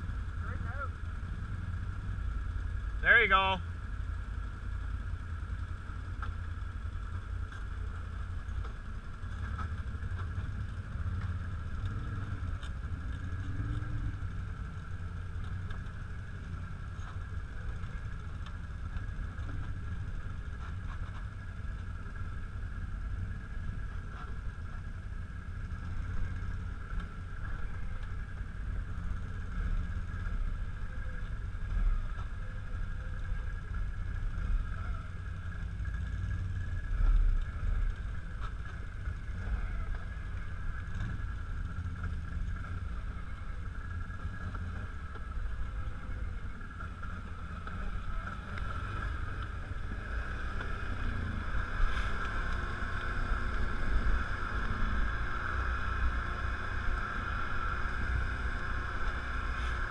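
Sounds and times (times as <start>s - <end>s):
atv engine rumbling: 0.0s - 59.9s.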